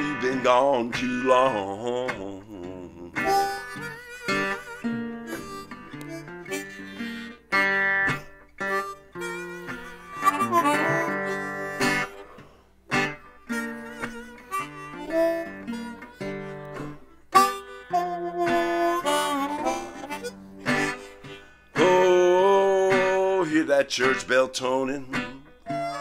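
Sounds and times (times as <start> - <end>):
blues slide guitar: 0.0 - 26.0.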